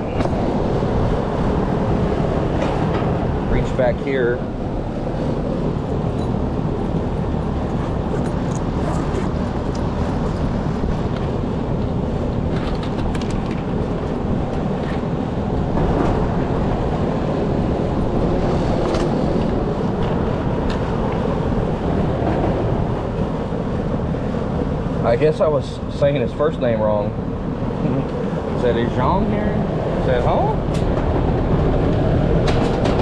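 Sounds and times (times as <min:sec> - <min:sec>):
air handler unit rumbling: 0:00.0 - 0:33.0.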